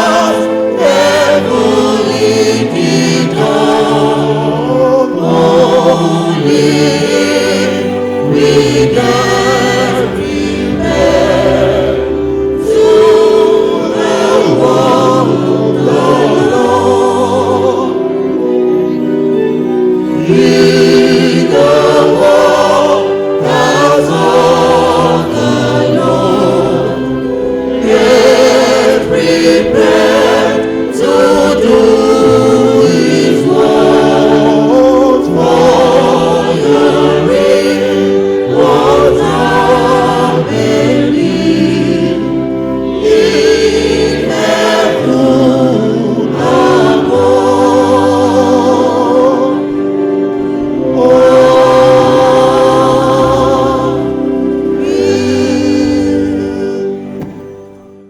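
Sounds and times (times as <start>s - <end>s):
choir singing a hymn: 0.0s - 58.0s
instrumental accompaniment: 0.0s - 58.0s.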